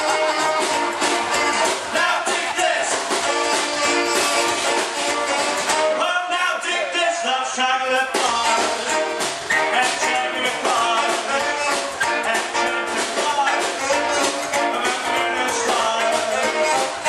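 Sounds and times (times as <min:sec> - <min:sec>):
electric guitar: 0:00.0 - 0:06.0, 0:08.2 - 0:17.0
upright double bass: 0:00.0 - 0:06.0, 0:08.1 - 0:17.0
drums: 0:00.0 - 0:17.0
person singing: 0:00.0 - 0:17.0.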